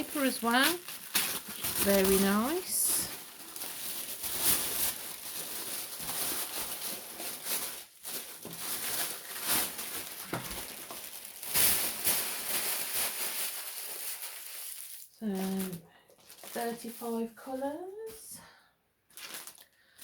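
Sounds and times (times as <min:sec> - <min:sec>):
tissue paper rustling and crinkling: 0:00.0 - 0:18.3, 0:19.1 - 0:20.0.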